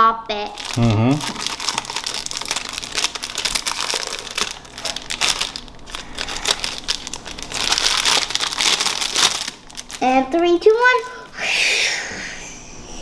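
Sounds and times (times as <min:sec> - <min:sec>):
plastic packaging crinkling: 0:00.4 - 0:11.3.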